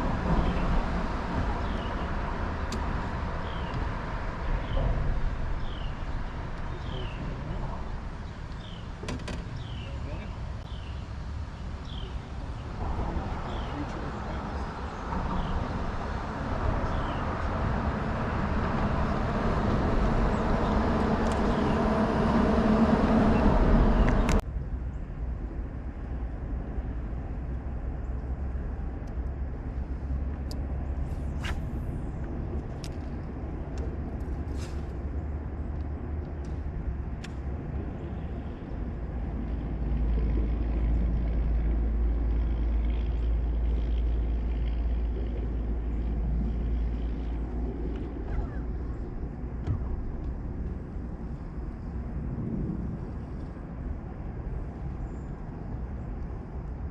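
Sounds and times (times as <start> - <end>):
boat engine and wind noise: 0.0 - 56.9
low rumble: 0.0 - 56.9.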